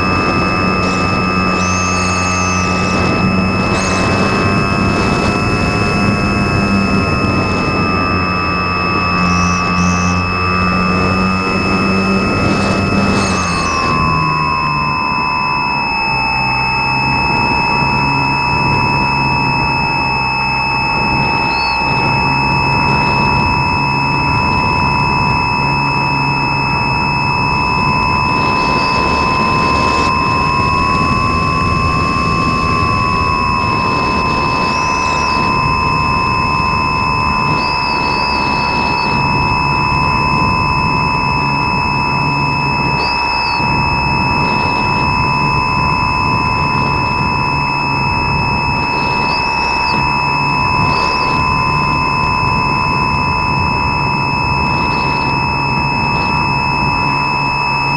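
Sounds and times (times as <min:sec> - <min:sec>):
model airplane motor whine: 0:00.0 - 0:57.9
steady high tones: 0:00.0 - 0:57.9
wind rush: 0:00.0 - 0:57.9.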